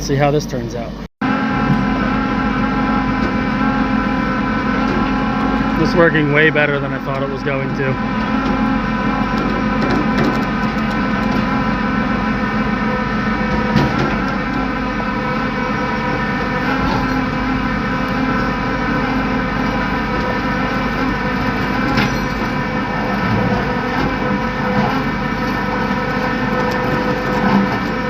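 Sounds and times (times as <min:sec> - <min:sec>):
tow truck engine running: 0:00.0 - 0:28.0.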